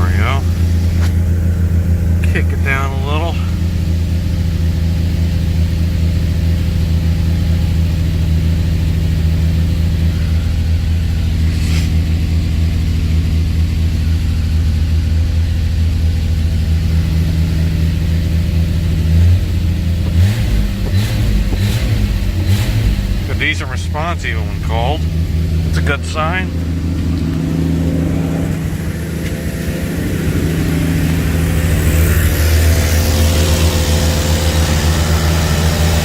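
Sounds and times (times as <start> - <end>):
car engine idling: 0.0 - 36.0
engine revving: 0.0 - 36.0.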